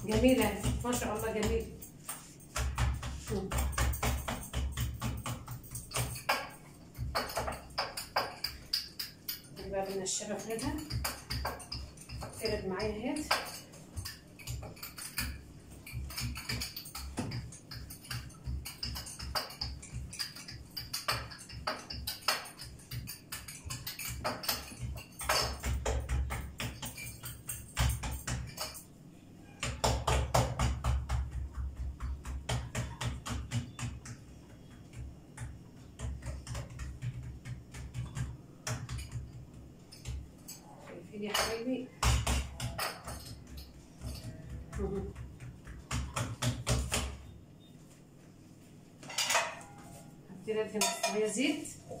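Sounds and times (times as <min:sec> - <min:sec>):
rolling pin on dough: 0:00.0 - 0:28.8, 0:29.4 - 0:40.6, 0:41.2 - 0:47.4.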